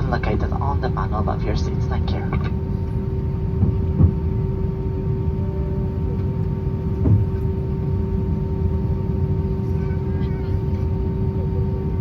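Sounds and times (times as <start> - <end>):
airplane cabin rumble and hum: 0.0 - 12.0.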